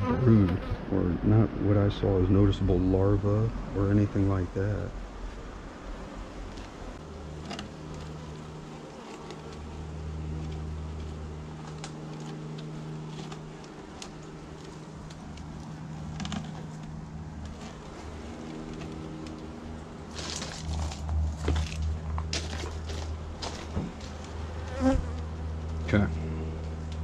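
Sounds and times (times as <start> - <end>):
honeybees humming: 0.0 - 27.0.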